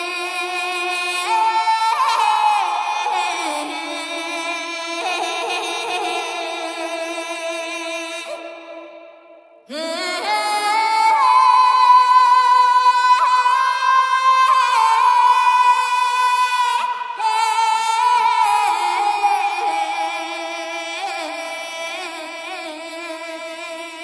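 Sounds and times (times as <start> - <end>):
high wordless singing voice: 0.0 - 24.0.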